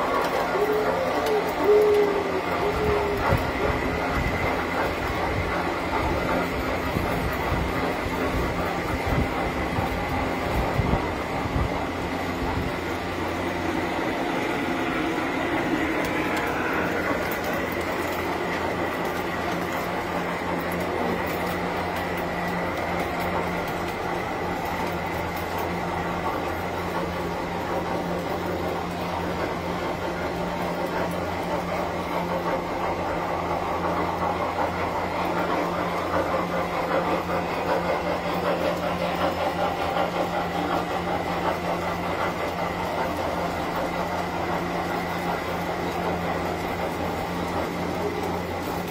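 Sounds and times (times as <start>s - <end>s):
model train wheels clattering on rails: 0.0s - 48.9s
steady hum: 0.0s - 48.9s.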